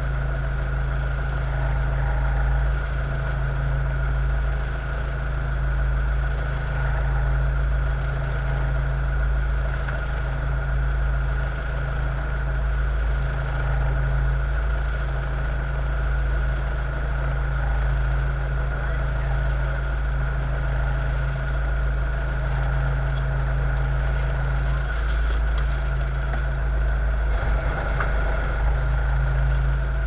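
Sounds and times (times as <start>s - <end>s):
boat engines idling: 0.0s - 30.0s.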